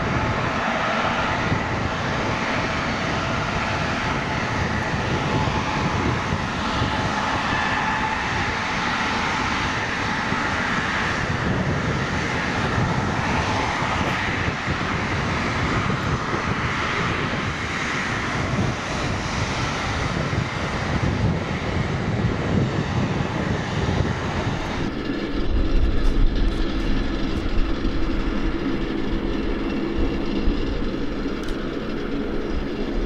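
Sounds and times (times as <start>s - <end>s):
jet engines idling: 0.0s - 33.0s.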